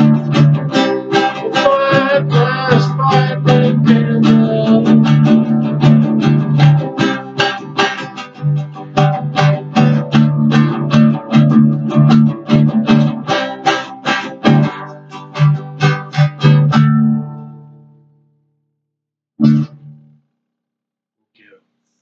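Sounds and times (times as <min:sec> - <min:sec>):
guitar strumming: 0:00.0 - 0:18.2, 0:19.4 - 0:20.2.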